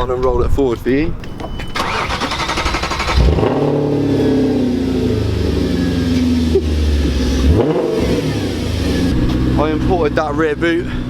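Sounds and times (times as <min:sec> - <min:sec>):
car engine running: 0:01.8 - 0:11.0.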